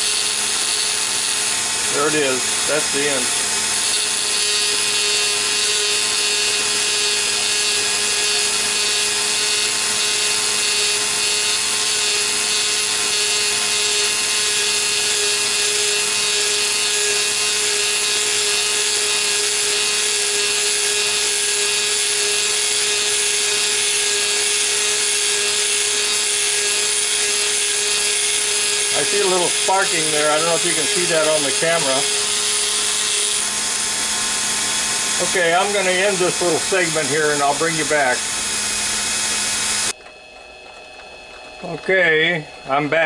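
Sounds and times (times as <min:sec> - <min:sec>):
grinder whining and grinding: 0:00.0 - 0:43.0.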